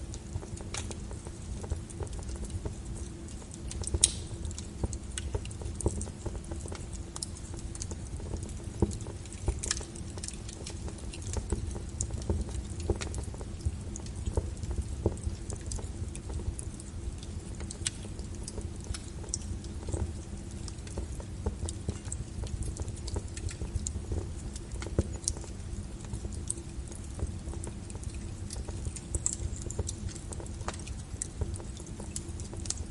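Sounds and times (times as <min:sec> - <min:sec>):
faint steady hum: 0:00.0 - 0:32.9
logs crackling in fireplace: 0:00.0 - 0:32.9.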